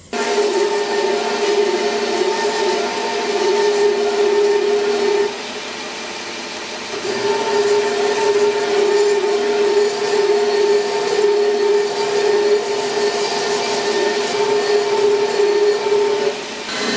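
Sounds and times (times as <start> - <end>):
belt grinder grinding steel: 0.1 - 5.5, 6.8 - 16.9.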